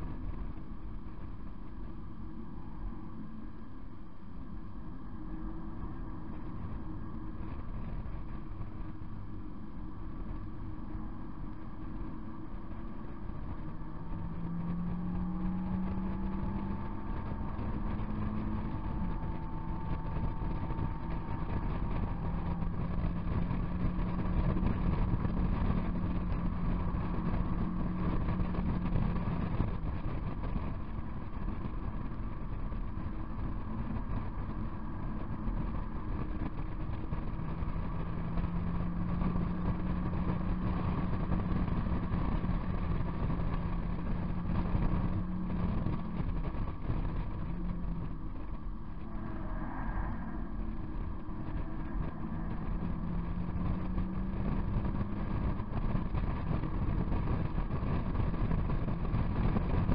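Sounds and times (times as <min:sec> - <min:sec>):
car engine driven hard: 0:00.0 - 0:59.9
road noise: 0:00.0 - 0:59.9
wind noise: 0:00.0 - 0:59.9.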